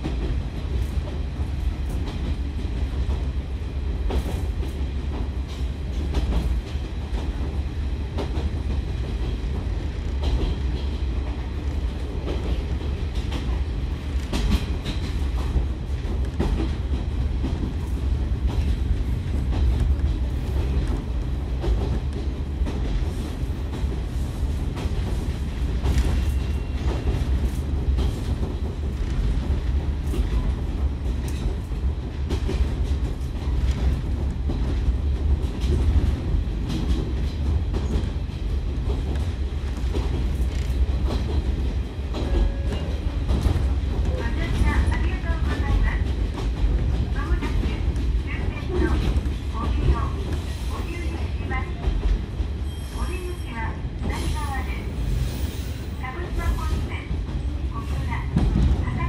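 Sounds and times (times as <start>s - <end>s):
railcar low rumble: 0.0s - 59.0s.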